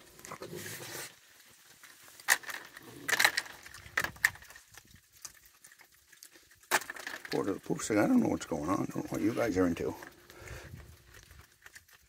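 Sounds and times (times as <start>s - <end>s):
raccoons crunching food: 0.0s - 12.0s
rustle: 0.0s - 12.0s.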